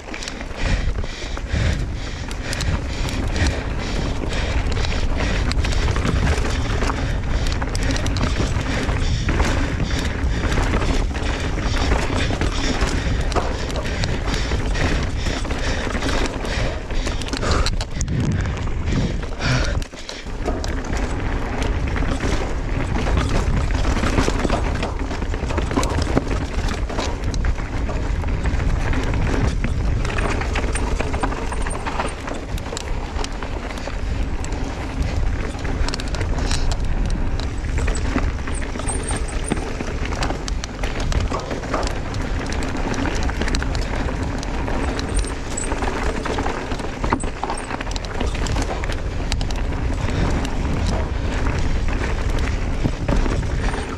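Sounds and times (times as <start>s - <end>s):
bike clattering and knocking: 0.0s - 53.9s
tyres rumbling over rocks: 0.0s - 53.9s.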